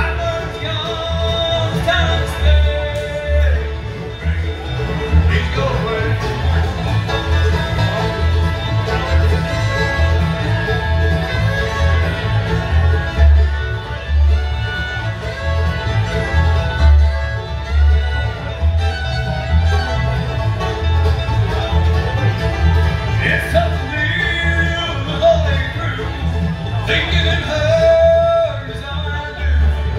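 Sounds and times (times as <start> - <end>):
acoustic guitar: 0.0 - 29.9
banjo: 0.0 - 29.9
fiddle: 0.0 - 29.9
upright bass: 0.0 - 29.9.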